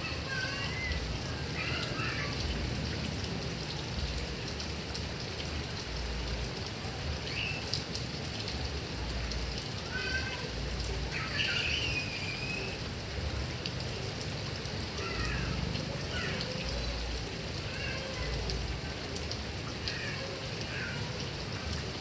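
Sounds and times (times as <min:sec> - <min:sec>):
heavy rain on grass and trees: 0:00.0 - 0:22.0.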